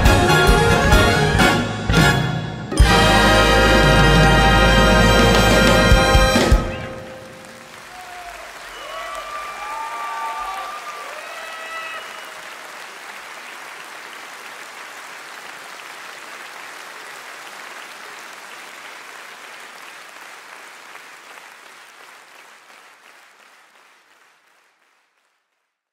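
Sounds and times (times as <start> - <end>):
audience applauding: 2.9 - 25.9.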